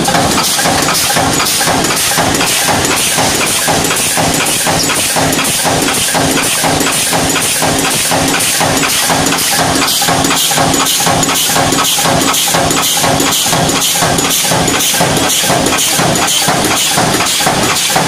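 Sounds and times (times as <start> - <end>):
punch press stamping: 0.0 - 18.0
steady motor hum: 0.0 - 18.0.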